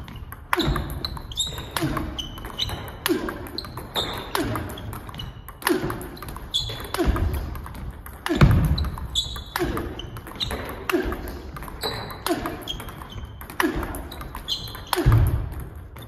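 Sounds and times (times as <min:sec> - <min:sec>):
table tennis ball clicks: 0:00.0 - 0:16.0.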